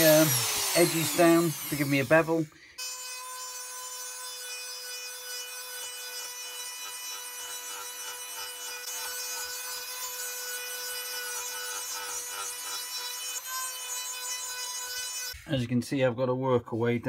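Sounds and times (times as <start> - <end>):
rotary tool high whine: 0.0 - 15.5.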